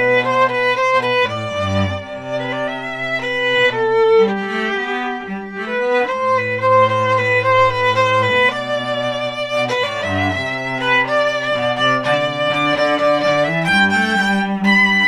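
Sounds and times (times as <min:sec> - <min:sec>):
cello low bowed notes: 0:00.0 - 0:15.0
violin long bowed notes: 0:00.0 - 0:15.0.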